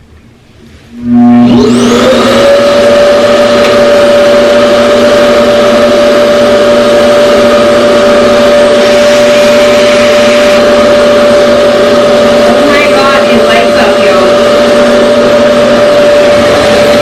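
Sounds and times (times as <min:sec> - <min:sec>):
hair dryer motor rushing air: 0:00.9 - 0:17.0.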